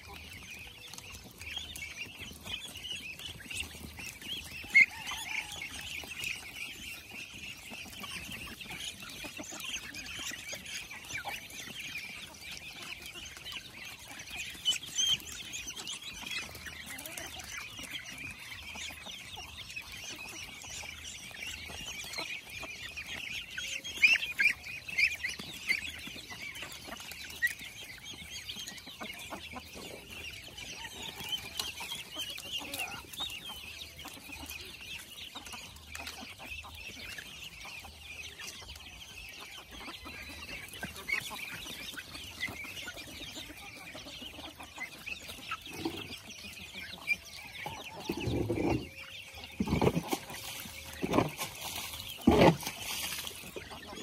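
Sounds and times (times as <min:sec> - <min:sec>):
chickens and ducks clucking: 0:00.0 - 0:54.0.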